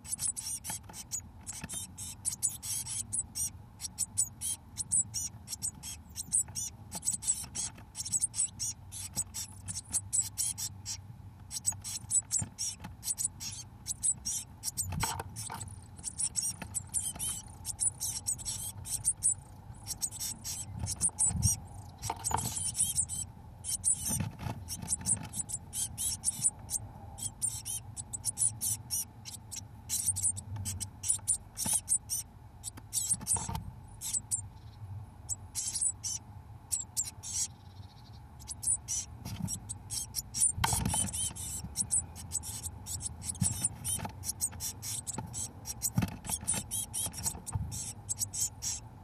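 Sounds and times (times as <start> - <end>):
nestlings chirping: 0.0 - 48.9
faint steady hum: 0.0 - 49.0.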